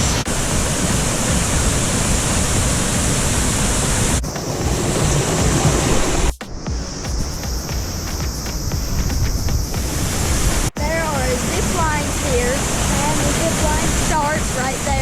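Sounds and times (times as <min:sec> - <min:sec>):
waterfall and river rushing: 0:00.0 - 0:06.4, 0:08.6 - 0:15.0.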